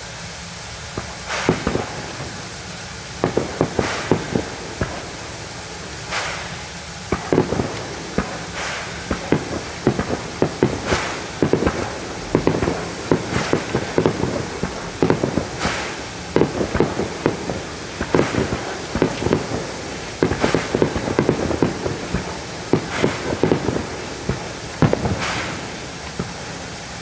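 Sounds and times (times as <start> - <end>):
fireworks bangs and pops: 0.0 - 27.0
hissing crackles of fireworks: 0.0 - 27.0.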